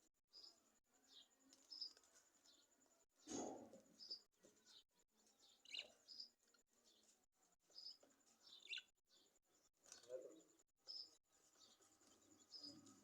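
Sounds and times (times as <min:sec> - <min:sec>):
lovebirds chirping: 0:00.3 - 0:13.0.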